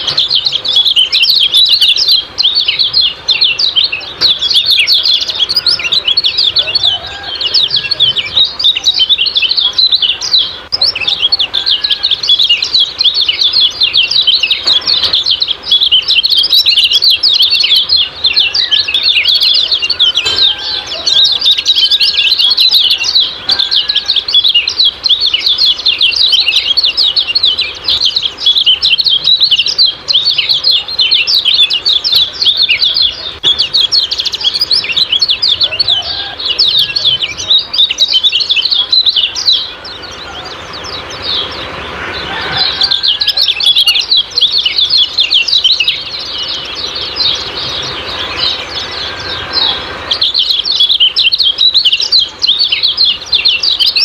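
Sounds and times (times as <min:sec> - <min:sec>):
bird chattering high chirps: 0:00.0 - 0:54.0.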